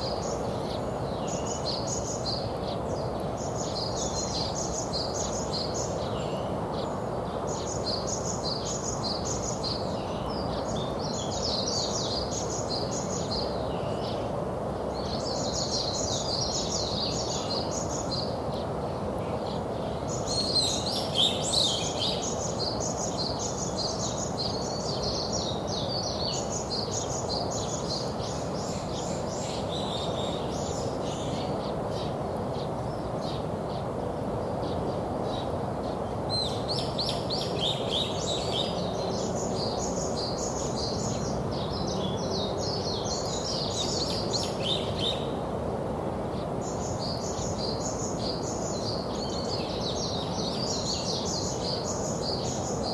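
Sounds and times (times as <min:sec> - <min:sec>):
songbirds chirping: 0:00.0 - 0:52.9.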